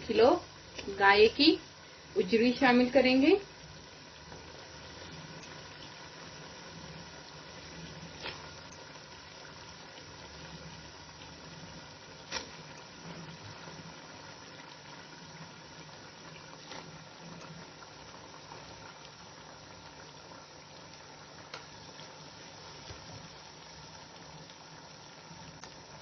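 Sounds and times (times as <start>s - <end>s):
onions sizzling in a pot: 0.0s - 26.0s.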